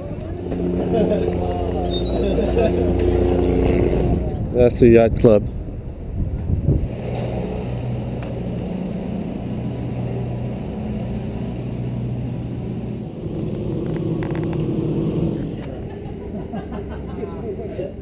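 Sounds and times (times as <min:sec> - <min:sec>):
low droning hum: 0:00.0 - 0:18.0
wind and road rumble: 0:00.0 - 0:18.0.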